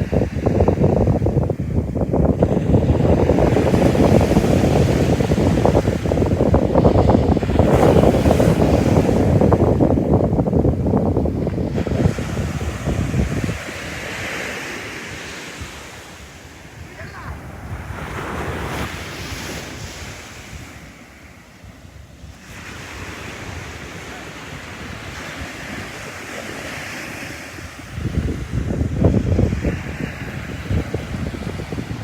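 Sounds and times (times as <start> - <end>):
sea waves breaking on beach: 0.0 - 32.0
wind buffeting microphone: 0.0 - 32.0.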